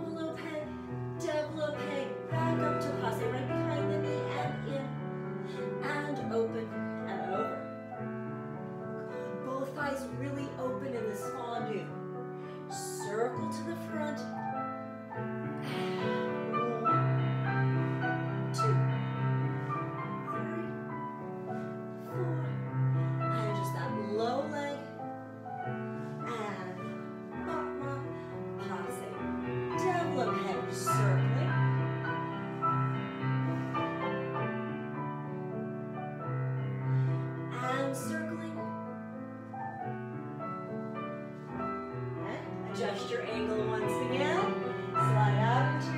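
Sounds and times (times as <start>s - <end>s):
classical piano music: 0.0s - 45.9s.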